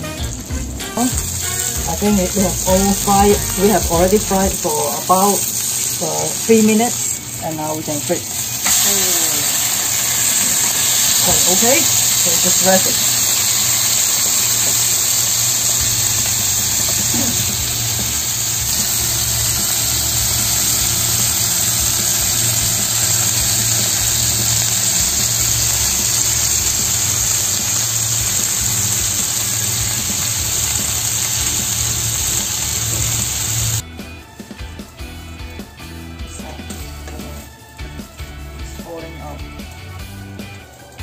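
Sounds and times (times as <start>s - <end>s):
oil sizzling in a pan: 0.0s - 33.8s.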